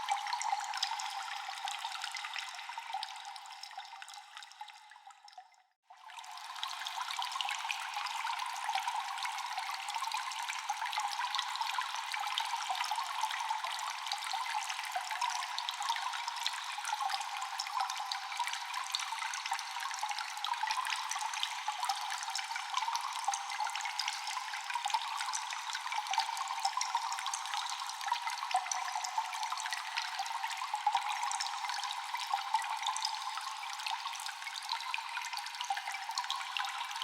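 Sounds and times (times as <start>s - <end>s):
water dripping and trickling: 0.0s - 37.0s.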